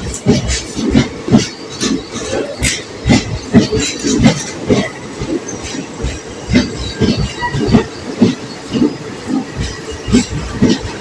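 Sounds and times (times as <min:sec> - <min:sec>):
train wheels knocking over rail joints: 0:00.0 - 0:11.0.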